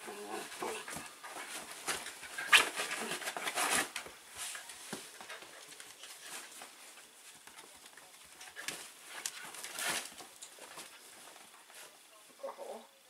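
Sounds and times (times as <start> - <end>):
dogs scuffling: 0.0 - 12.1.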